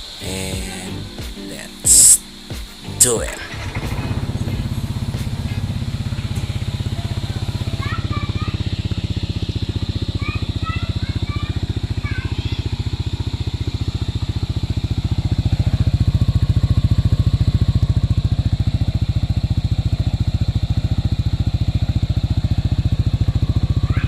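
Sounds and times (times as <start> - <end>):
scooter engine exhaust beat: 0.0 - 24.0.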